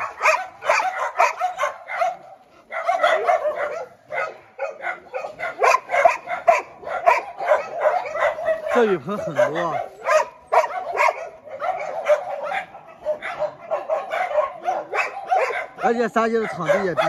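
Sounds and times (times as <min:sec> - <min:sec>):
dogs barking and yipping: 0:00.0 - 0:17.0.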